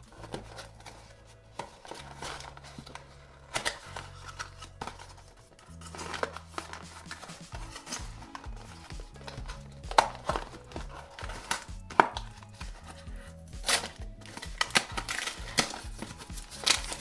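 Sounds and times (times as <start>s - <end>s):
cardboard tearing: 0.1s - 13.0s, 13.6s - 17.0s.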